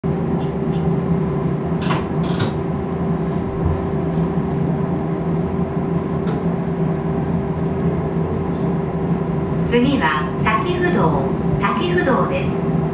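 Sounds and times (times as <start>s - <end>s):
electric train running hum: 0.0s - 12.9s.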